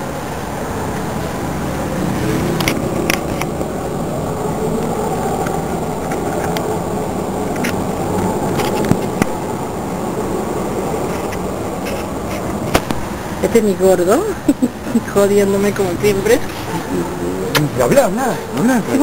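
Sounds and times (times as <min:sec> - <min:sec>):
city hum: 0:00.0 - 0:19.0.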